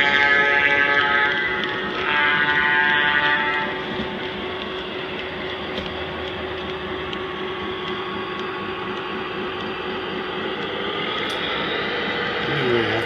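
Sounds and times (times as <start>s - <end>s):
model train running hum: 0.0s - 13.0s.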